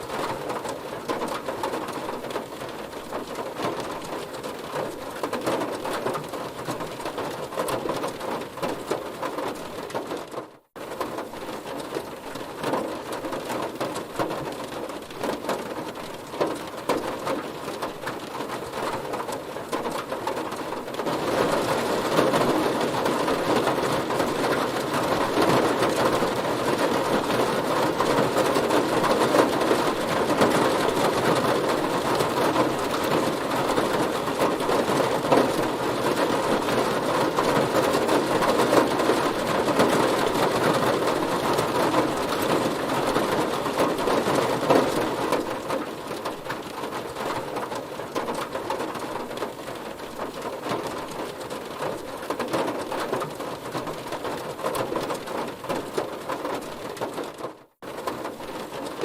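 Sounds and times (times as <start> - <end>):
heavy rain drumming on car: 0.0 - 59.0.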